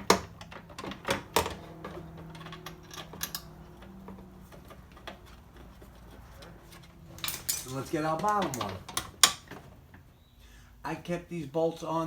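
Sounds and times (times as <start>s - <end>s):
metal clicks and knocks: 0.0s - 10.0s.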